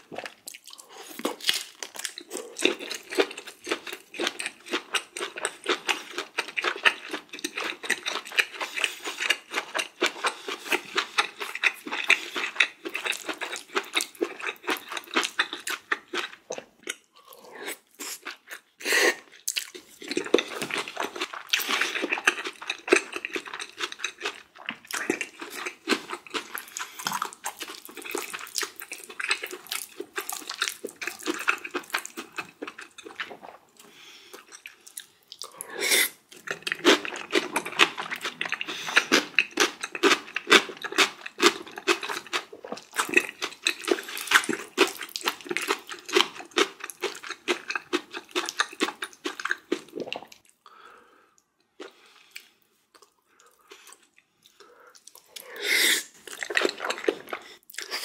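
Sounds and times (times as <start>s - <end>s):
person chewing wetly: 0.0s - 50.7s, 51.3s - 58.0s.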